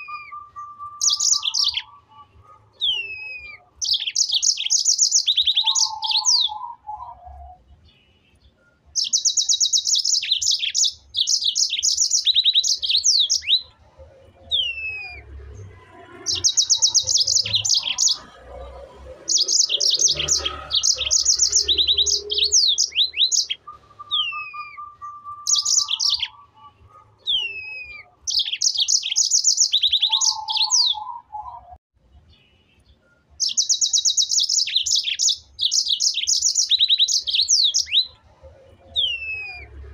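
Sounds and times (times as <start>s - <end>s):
songbird trilling: 0.0s - 7.6s, 9.0s - 13.8s, 16.2s - 18.4s, 19.2s - 31.7s, 33.4s - 38.2s.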